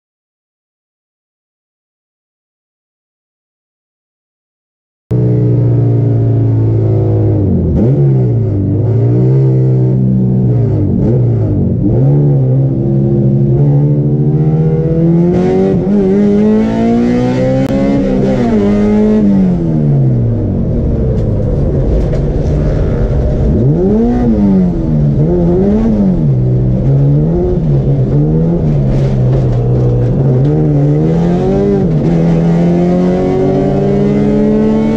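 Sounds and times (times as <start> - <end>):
race car engine revving: 5.1 - 34.9.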